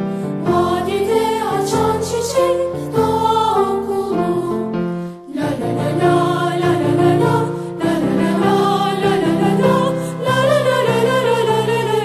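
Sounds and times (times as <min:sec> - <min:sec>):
choir singing a march: 0:00.5 - 0:04.7, 0:05.3 - 0:12.0.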